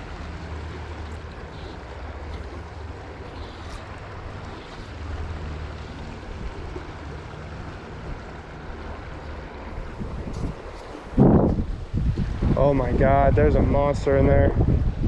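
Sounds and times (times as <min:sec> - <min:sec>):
river water rushing: 0:00.0 - 0:13.4
wind rumble on microphone: 0:01.0 - 0:15.0.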